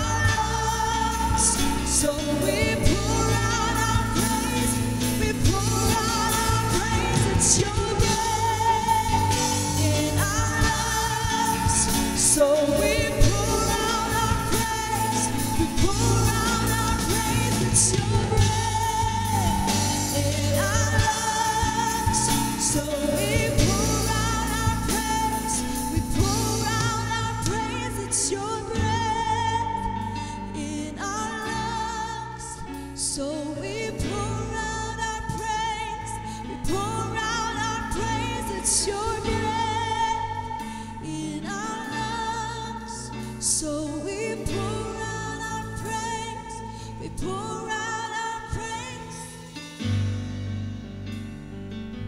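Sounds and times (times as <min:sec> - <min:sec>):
drums: 0:00.0 - 0:31.3, 0:32.7 - 0:52.0
person singing with vibrato: 0:00.0 - 0:50.0
bass: 0:00.0 - 0:52.0
keyboard: 0:00.0 - 0:52.0.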